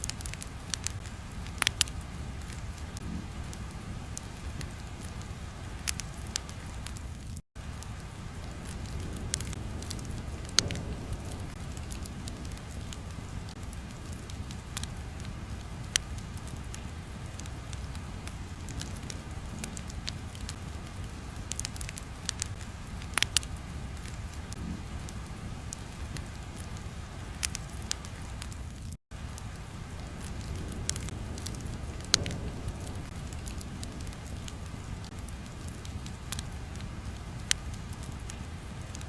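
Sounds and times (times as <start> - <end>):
fire crackling and popping: 0.0 - 39.0
low rumble of fire: 0.0 - 39.0.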